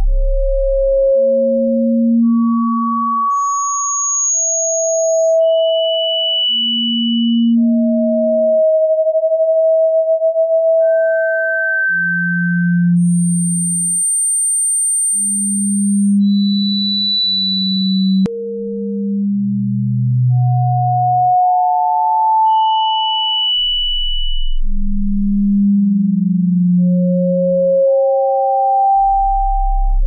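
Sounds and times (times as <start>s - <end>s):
electronic sine tones: 0.0s - 30.0s.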